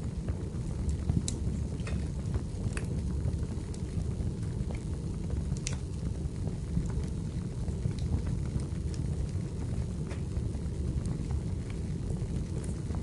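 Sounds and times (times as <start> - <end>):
fire flames rumbling: 0.0 - 13.0
firewood crackling and popping: 0.0 - 13.0.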